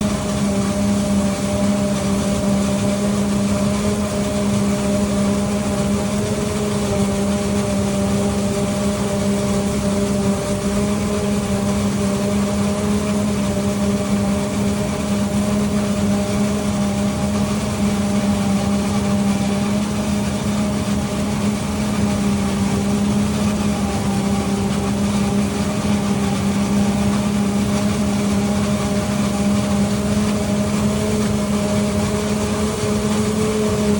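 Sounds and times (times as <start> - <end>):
harvester engine humming: 0.0 - 33.9.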